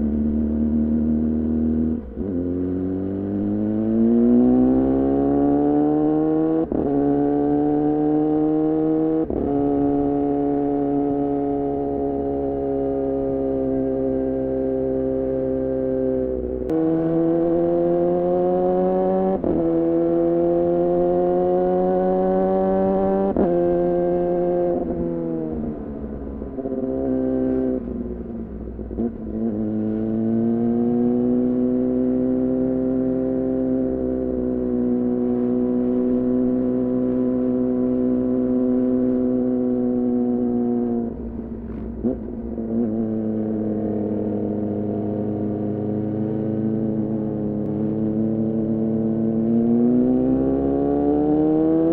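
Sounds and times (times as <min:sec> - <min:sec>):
motorcycle engine under way: 0:00.0 - 0:51.9.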